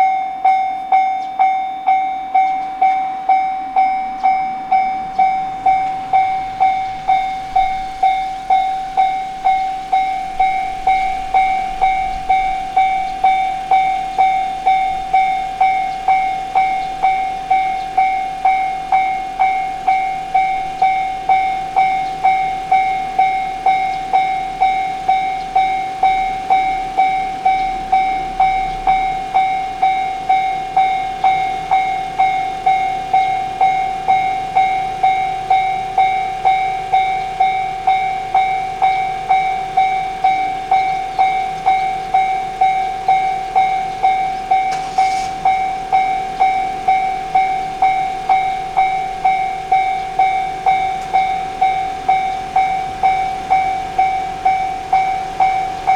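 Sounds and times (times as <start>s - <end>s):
railroad crossing bell ringing: 0.0s - 55.9s.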